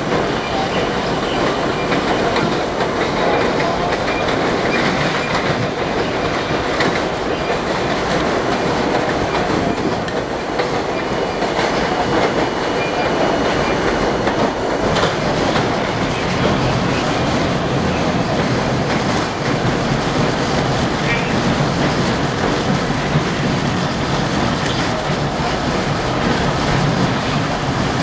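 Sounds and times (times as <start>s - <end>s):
subway wheels rumbling on rail: 0.0s - 28.0s
wheels clacking over rail joints: 0.0s - 28.0s.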